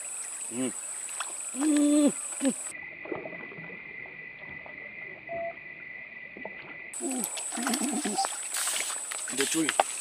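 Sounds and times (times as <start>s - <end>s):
quiet outdoor ambience: 0.0s - 10.0s.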